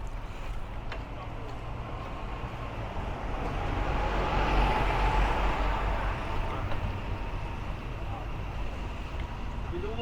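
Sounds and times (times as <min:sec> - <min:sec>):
vehicle rumble with hiss: 0:00.0 - 0:10.0.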